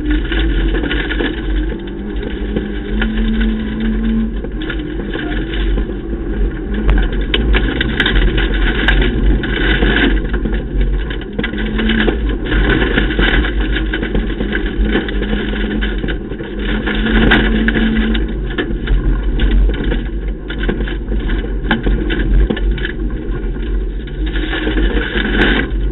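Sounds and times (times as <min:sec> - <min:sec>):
car engine running hard: 0:00.0 - 0:25.9
tyres on gravel: 0:00.0 - 0:25.9.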